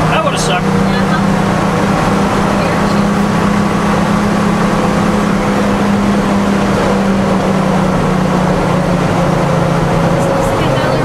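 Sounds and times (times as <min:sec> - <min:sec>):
diesel engine cruising: 0:00.0 - 0:11.0.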